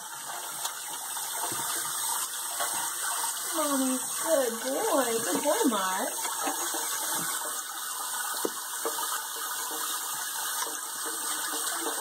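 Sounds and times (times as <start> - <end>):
faucet spraying into water: 0.0 - 12.0.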